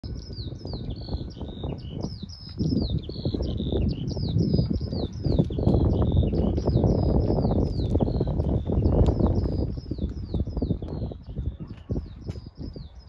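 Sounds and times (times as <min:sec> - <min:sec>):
low rumble on microphone: 0:00.0 - 0:13.0
songbird chirping: 0:00.0 - 0:13.0.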